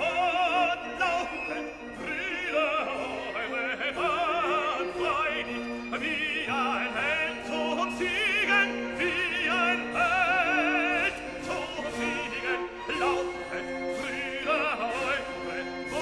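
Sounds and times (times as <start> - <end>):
operatic singing: 0.0 - 16.0
orchestra playing: 0.0 - 16.0.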